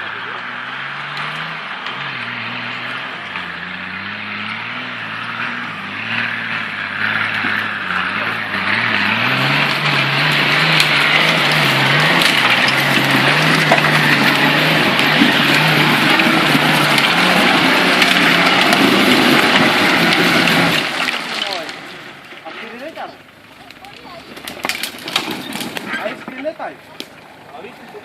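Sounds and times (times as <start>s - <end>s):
engine pulling under load: 0.0s - 28.0s
tyres and chains rough noise: 0.0s - 28.0s.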